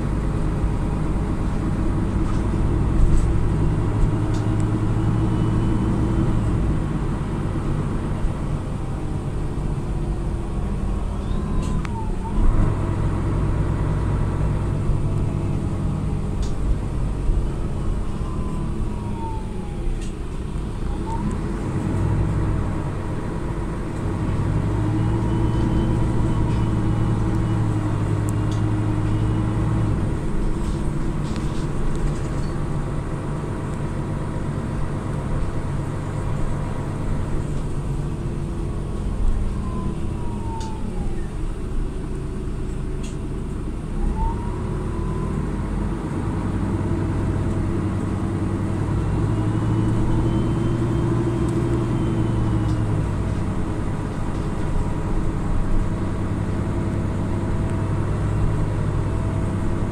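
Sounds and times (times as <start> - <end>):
bus diesel engine running: 0.0 - 59.9
drivetrain whine: 0.0 - 59.9.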